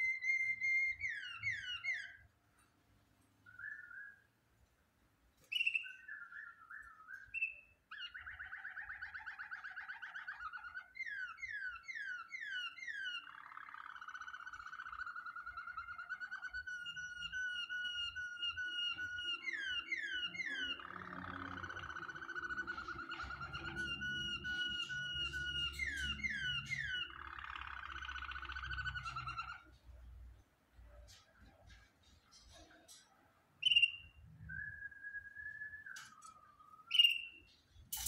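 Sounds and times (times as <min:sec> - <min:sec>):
canary singing: 0:00.0 - 0:02.3, 0:03.4 - 0:04.4, 0:05.4 - 0:30.2, 0:31.4 - 0:38.0.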